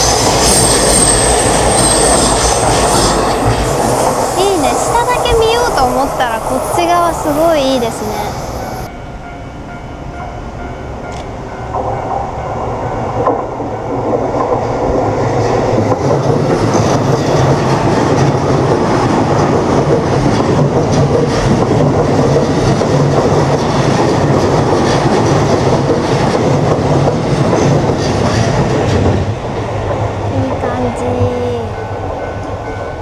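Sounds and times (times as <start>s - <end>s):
train wheels clattering on rails: 0.0s - 33.0s.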